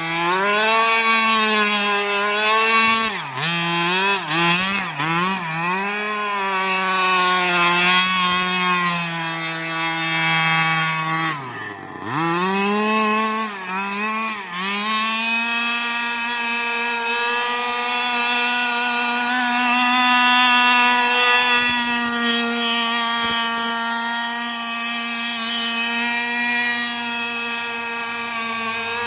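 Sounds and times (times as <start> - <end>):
rc car engine revving: 0.0 - 29.0.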